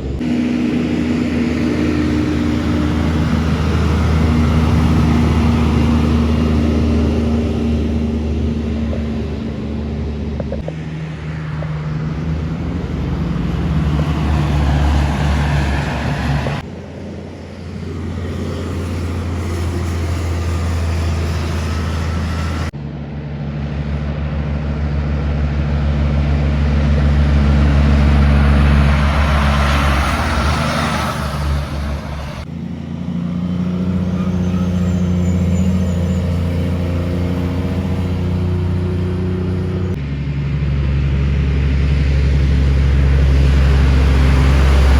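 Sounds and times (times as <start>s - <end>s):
diesel trucks driving past: 0.0s - 44.9s.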